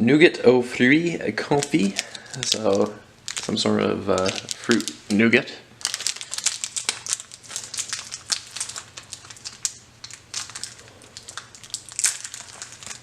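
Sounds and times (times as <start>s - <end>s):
food wrapper crinkling: 1.5s - 5.2s, 5.8s - 13.0s.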